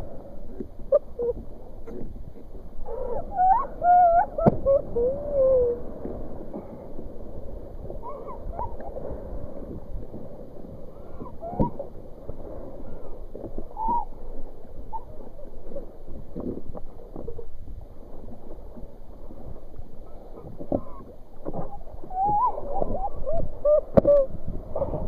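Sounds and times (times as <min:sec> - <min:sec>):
water splashing against kayak: 0:00.0 - 0:25.0.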